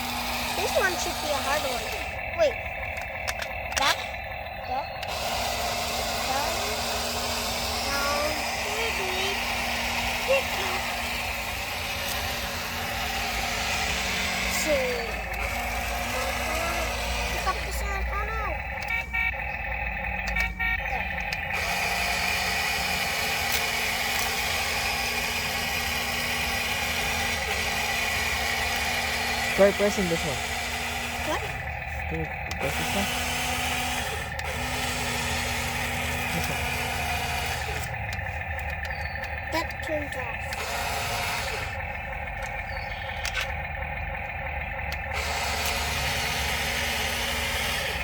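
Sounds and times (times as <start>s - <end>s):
toy excavator motors whirring: 0.0s - 48.0s.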